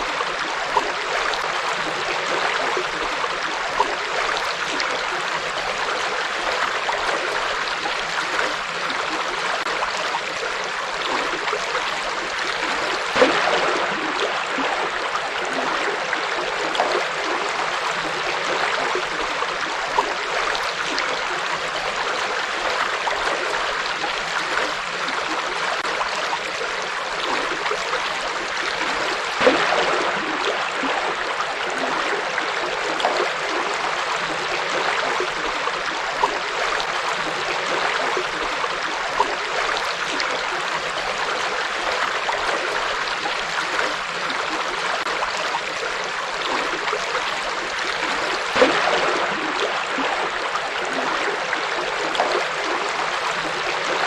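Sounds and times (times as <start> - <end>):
river water flowing: 0.0 - 54.0
water splashing: 0.0 - 54.0.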